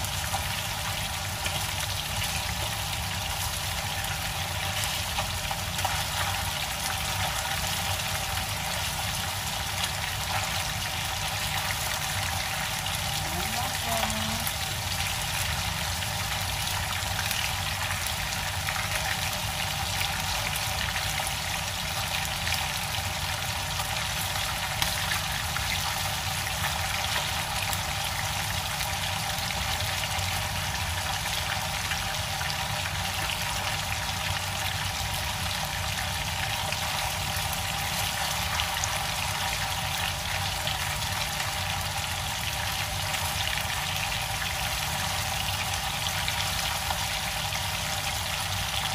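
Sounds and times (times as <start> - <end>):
fish frying in oil: 0.0 - 48.9.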